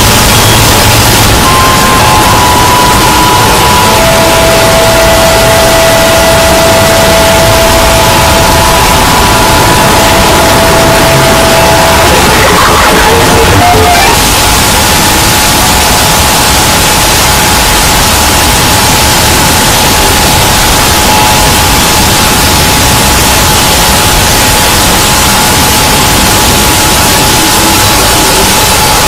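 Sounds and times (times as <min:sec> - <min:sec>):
loud digital static: 0:00.0 - 0:29.0.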